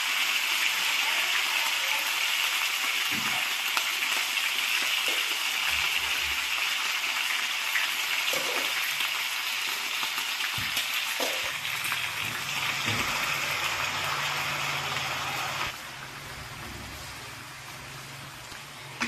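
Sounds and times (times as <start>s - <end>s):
chicken sizzling in a wok: 0.0s - 19.0s.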